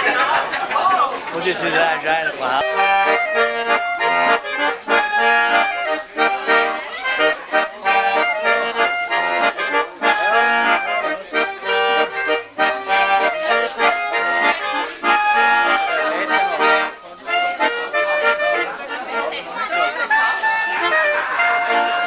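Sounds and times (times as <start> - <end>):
accordion playing folk tune: 1.0 - 22.0.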